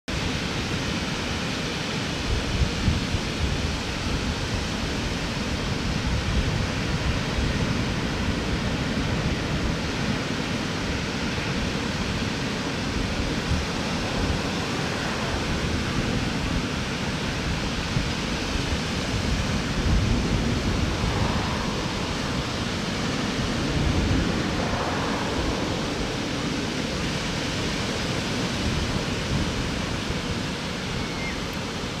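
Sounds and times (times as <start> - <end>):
waves breaking on beach: 0.1 - 32.0
wind rumble on microphone: 0.1 - 32.0.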